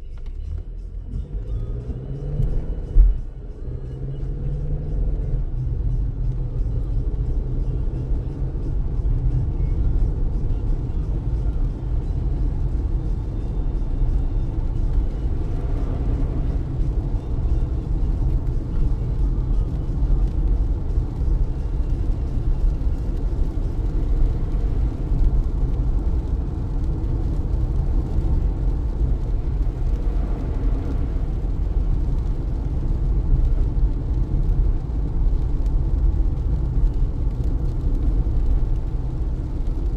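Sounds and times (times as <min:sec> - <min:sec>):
car road and engine rumble: 0:00.0 - 0:39.9
heavy rain on car: 0:04.9 - 0:39.9.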